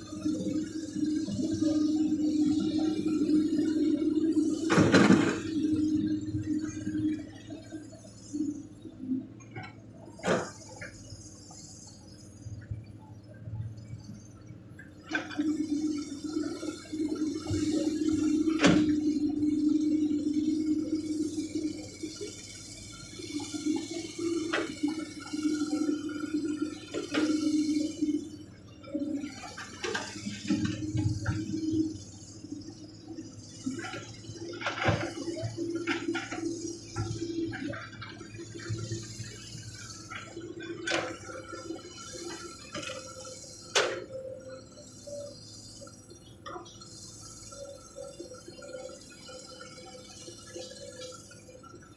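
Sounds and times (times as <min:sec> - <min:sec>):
excavator engine drone and whine: 0:00.0 - 0:51.9.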